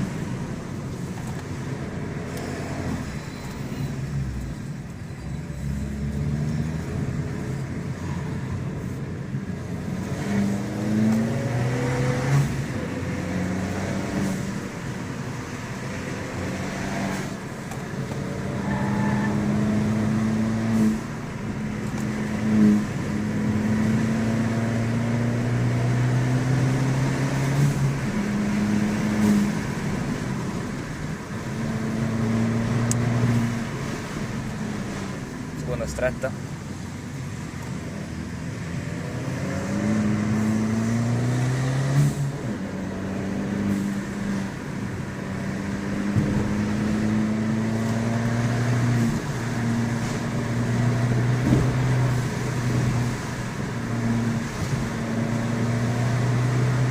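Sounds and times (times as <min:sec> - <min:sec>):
car engine accelerating hard: 0:09.5 - 0:36.4, 0:37.5 - 0:56.9.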